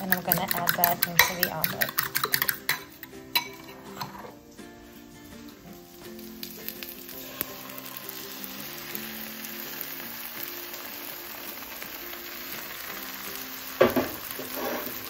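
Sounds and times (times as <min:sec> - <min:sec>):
eggs sizzling in a skillet: 0:00.0 - 0:15.0.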